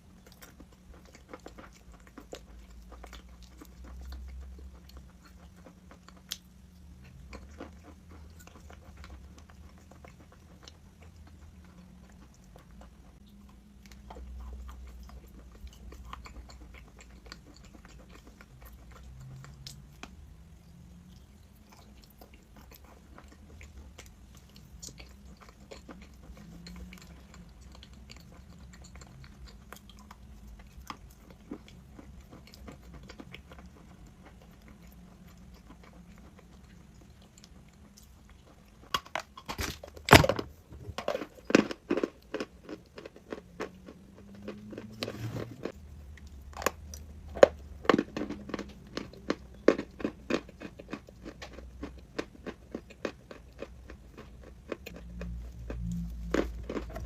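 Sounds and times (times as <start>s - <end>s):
person chewing crunchy chalk: 0.0s - 57.0s.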